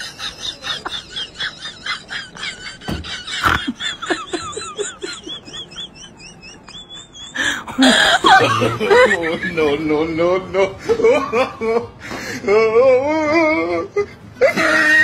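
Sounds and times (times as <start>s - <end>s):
people snickering and laughing: 0.0s - 9.9s, 10.6s - 15.0s.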